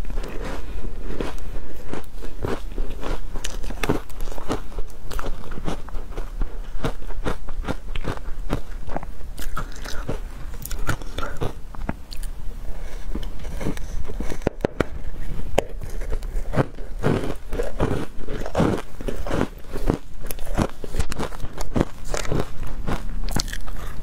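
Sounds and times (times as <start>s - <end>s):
ice crunching being chewed: 0.0s - 24.0s.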